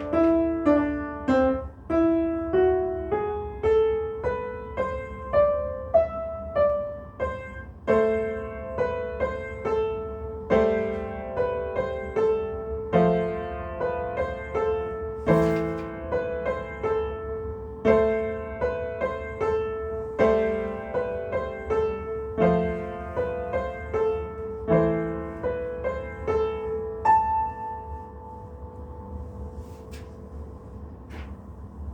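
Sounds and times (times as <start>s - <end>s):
piano playing a carol: 0.0s - 31.0s.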